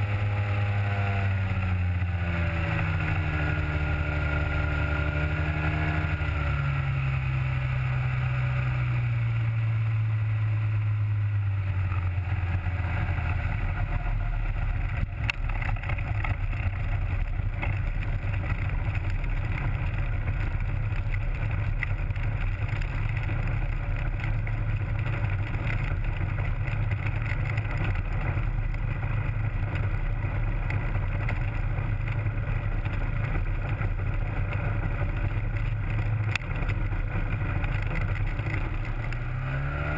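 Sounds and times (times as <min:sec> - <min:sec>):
ultralight aircraft engine running: 0:00.0 - 0:39.9.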